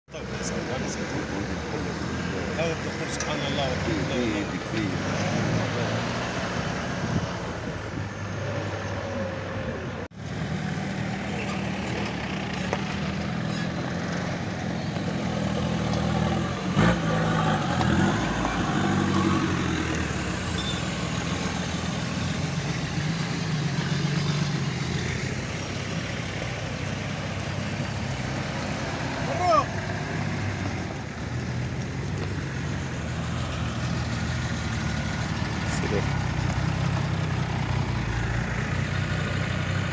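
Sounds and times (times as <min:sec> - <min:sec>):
off-road engines at low speed: 0:00.0 - 0:39.9.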